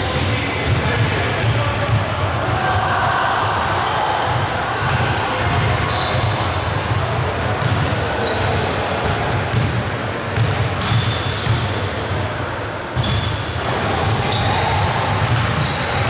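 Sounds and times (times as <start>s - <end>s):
basketball bouncing on a court: 0.1s - 2.7s, 4.3s - 12.2s, 13.0s - 16.0s.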